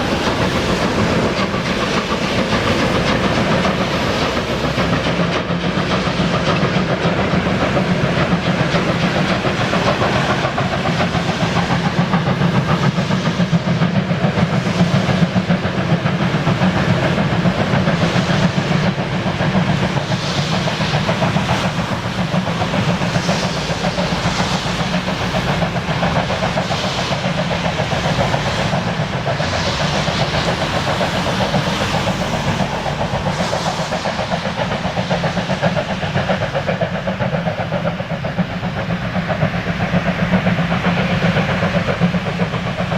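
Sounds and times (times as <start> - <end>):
steam locomotive hissing: 0.0 - 42.9
train wheels clattering on rails: 0.0 - 42.9.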